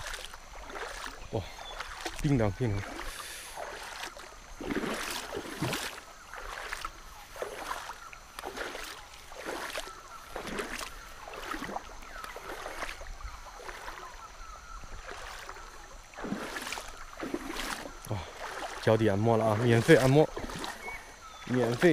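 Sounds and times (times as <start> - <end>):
footsteps splashing in water: 0.0 - 21.9.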